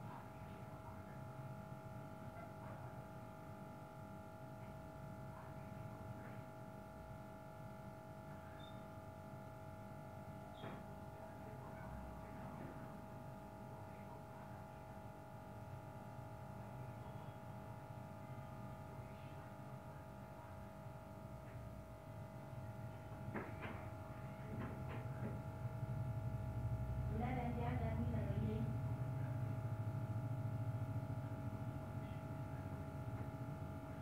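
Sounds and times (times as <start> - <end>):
faint electrical hum: 0.0 - 34.0.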